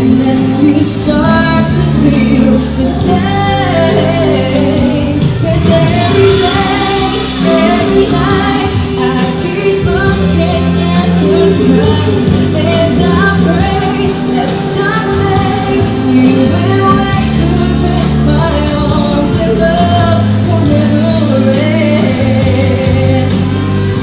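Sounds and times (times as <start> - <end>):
backing music: 0.0 - 24.0
woman singing pop song: 0.0 - 24.0.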